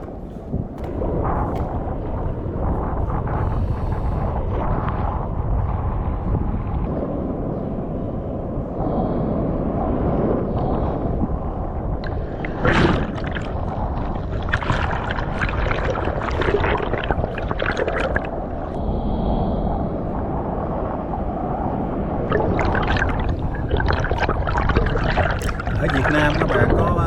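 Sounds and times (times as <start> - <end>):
crackling and bubbling underwater: 0.0 - 27.0
underwater surge rumble: 0.0 - 27.0.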